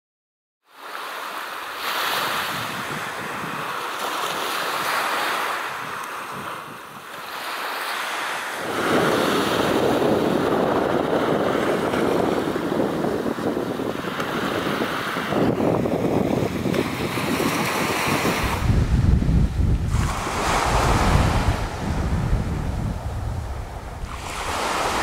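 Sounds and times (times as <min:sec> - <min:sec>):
waves washing: 0:00.8 - 0:25.0
wind blowing on microphone: 0:01.8 - 0:07.5, 0:08.3 - 0:25.0.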